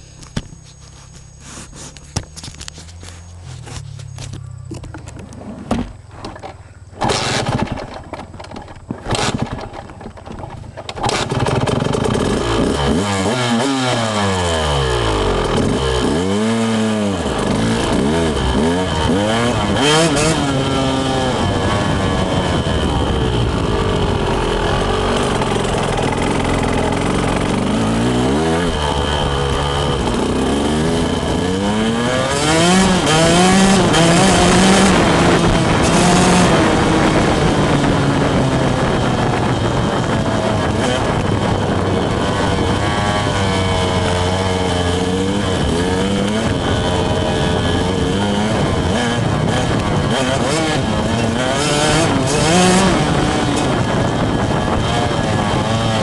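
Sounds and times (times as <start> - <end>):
dirt bike engine revving: 6.4 - 10.3, 11.0 - 56.0.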